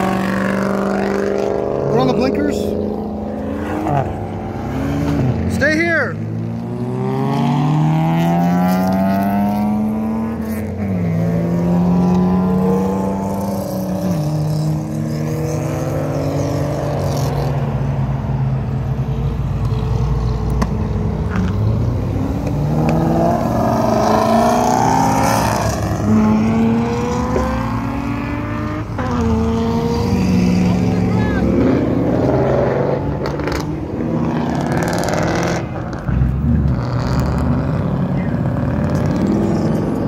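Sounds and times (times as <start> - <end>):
cars accelerating and revving past: 0.0 - 40.0
traffic rumble: 0.0 - 40.0.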